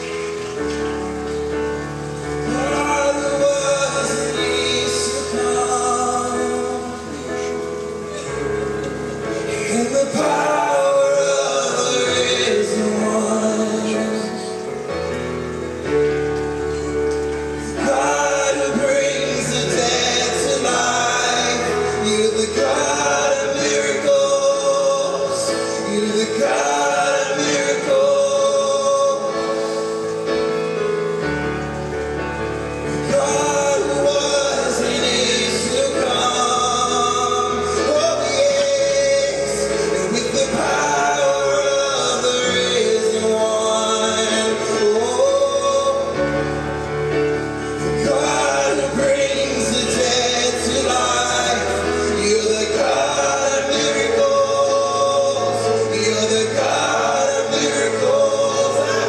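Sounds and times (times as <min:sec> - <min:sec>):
voices singing worship song: 0:00.0 - 0:59.0.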